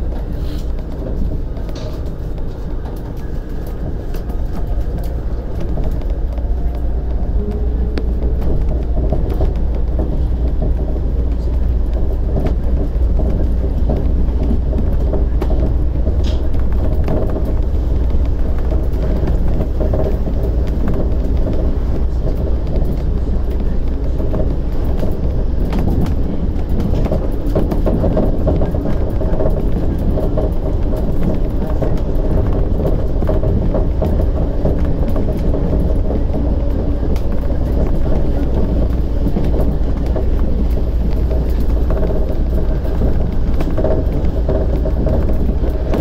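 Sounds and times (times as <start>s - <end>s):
monorail car rumbling: 0.0s - 46.0s.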